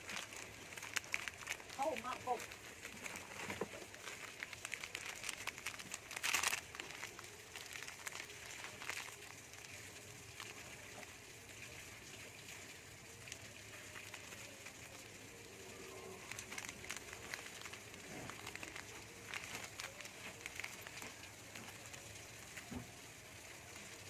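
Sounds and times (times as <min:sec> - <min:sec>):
plastic wrappers crinkling: 0:00.0 - 0:24.0.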